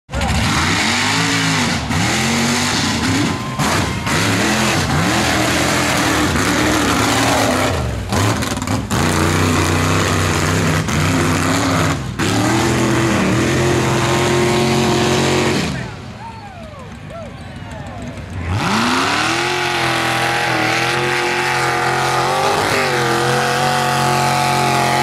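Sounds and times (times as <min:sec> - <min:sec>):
truck engine revving: 0:00.1 - 0:16.2, 0:17.9 - 0:25.0.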